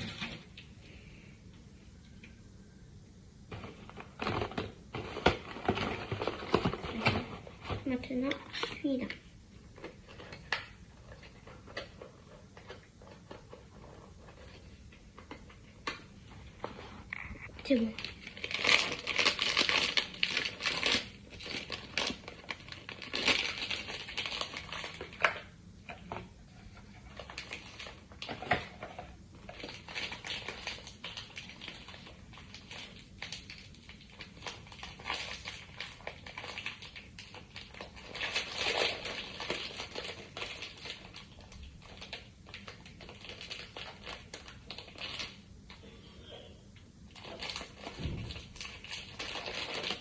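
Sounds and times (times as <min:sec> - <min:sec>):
packaging crinkling and rustling: 0:03.5 - 0:45.8, 0:47.1 - 0:50.0.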